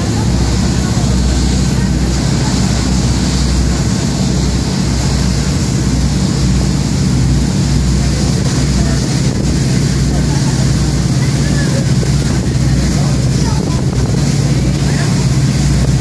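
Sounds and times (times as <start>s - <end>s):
ferry engines droning: 0.0s - 16.0s
water rushing: 0.0s - 16.0s.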